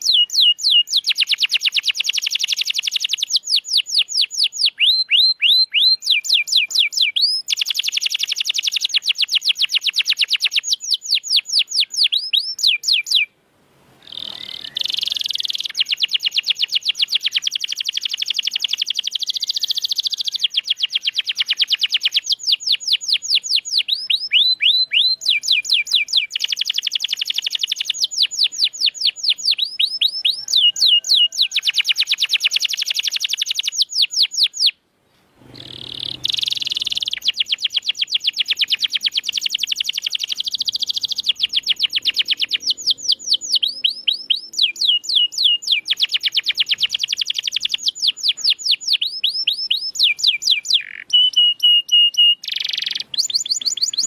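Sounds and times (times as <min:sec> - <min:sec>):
canary singing trills: 0:00.0 - 0:13.3, 0:14.0 - 0:34.8, 0:35.5 - 0:54.0.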